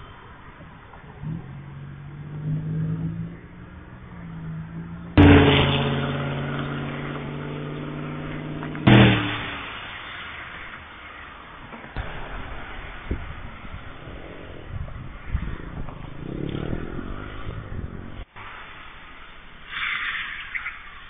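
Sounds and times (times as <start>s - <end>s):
engine droning: 0.0s - 18.3s
passing car rush: 0.0s - 21.0s.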